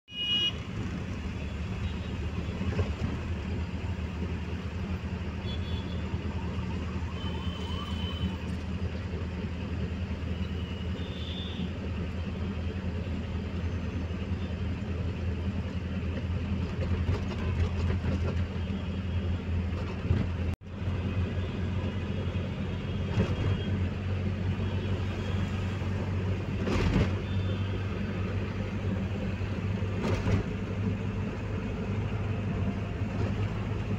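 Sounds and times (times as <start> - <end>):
car engine and road noise: 0.1 - 33.9.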